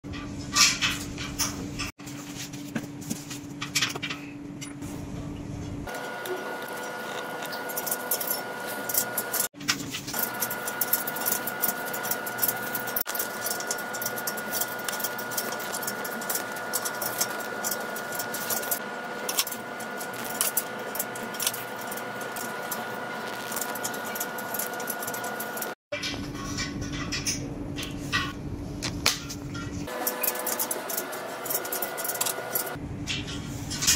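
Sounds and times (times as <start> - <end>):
steady background hum: 0.1 - 33.9.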